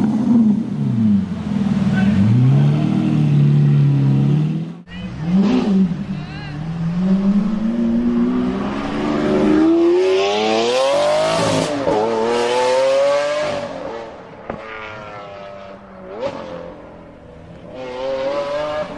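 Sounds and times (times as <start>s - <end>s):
car engine accelerating hard: 0.0s - 18.9s.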